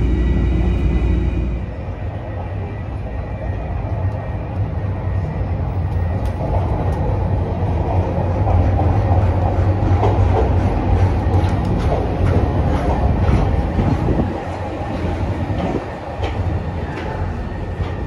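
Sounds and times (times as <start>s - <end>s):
train rolling along track: 0.0s - 18.0s.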